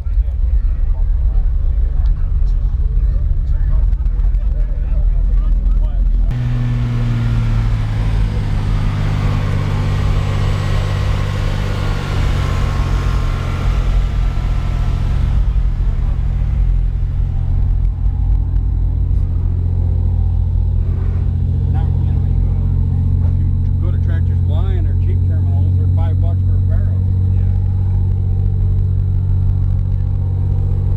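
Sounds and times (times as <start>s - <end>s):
deep bass tones from car audio: 0.0s - 30.9s.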